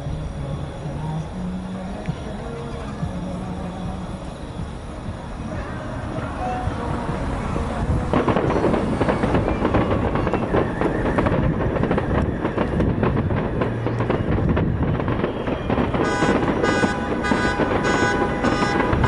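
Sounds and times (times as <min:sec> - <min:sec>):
continuous low rumble: 0:00.0 - 0:19.0
fireworks bangs and crackles: 0:00.0 - 0:19.0.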